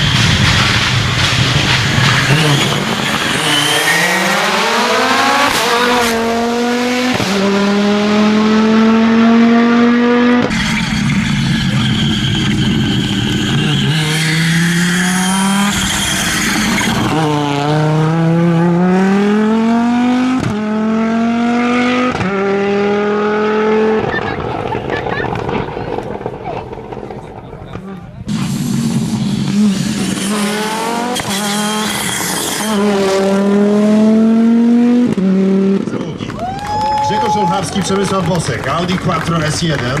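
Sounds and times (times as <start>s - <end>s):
rally car engine revving: 0.0s - 36.4s.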